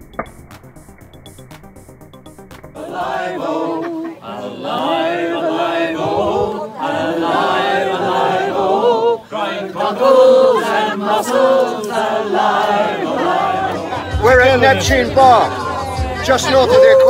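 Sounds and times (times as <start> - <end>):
group of people singing unaccompanied: 2.6 - 17.0.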